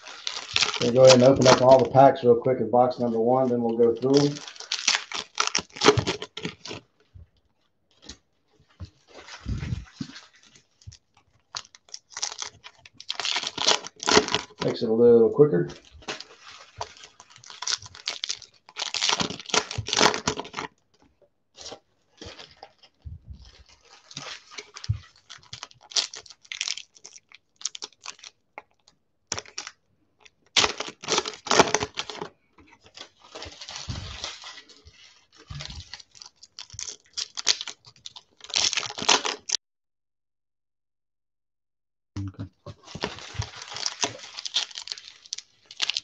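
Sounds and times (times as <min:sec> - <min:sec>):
foil wrappers torn and crinkled: 0:00.0 - 0:02.1, 0:03.0 - 0:06.9, 0:09.0 - 0:14.8, 0:15.7 - 0:20.8, 0:21.6 - 0:39.6, 0:42.8 - 0:46.0.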